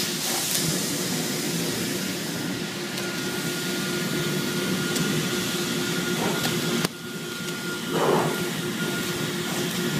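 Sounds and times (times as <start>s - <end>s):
laser cutting machine hissing: 0.0s - 9.9s.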